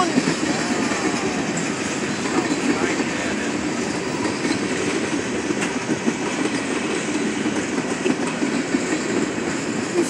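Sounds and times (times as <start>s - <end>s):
freight train rolling past: 0.0s - 10.0s.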